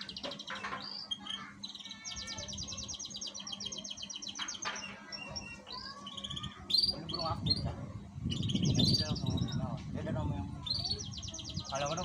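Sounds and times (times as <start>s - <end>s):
canary singing: 0.0s - 9.7s, 10.4s - 12.0s.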